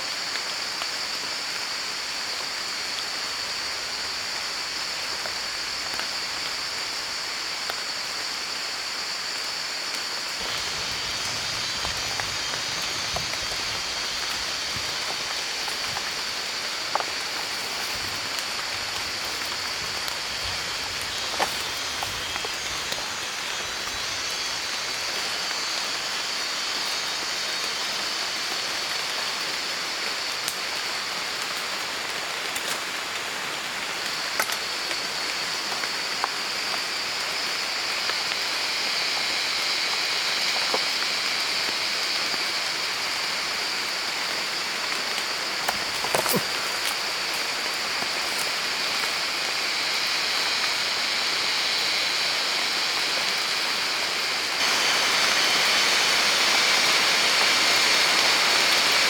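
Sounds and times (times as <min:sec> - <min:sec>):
steady outdoor hiss: 0:00.0 - 0:59.0
high continuous buzz: 0:00.1 - 0:59.0.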